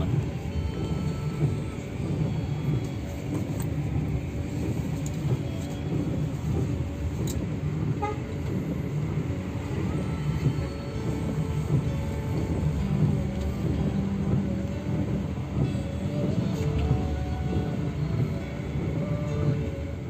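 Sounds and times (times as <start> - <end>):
coach engine and tyres rumbling: 0.0 - 20.0.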